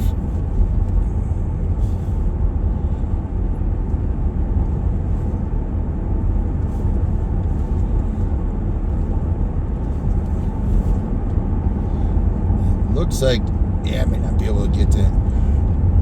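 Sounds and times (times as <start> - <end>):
vehicle interior road rumble: 0.0 - 16.0.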